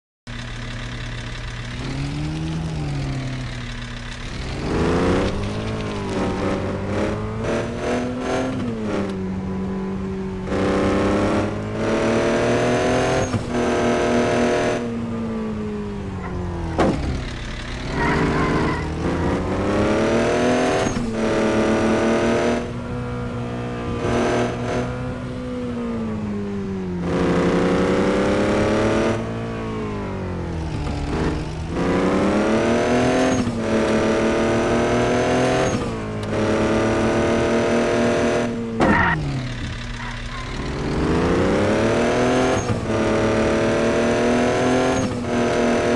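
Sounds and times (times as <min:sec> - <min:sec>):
engine revving through gears: 0:00.3 - 0:45.9.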